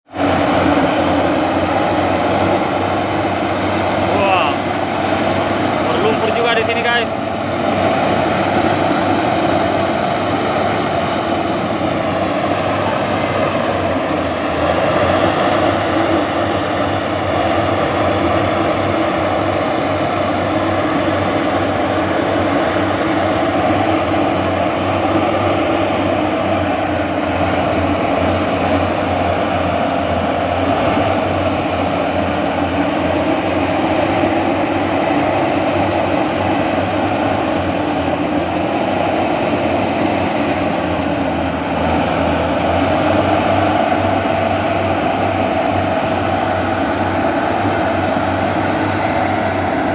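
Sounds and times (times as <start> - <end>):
combine harvester engine running: 0.1 - 49.9.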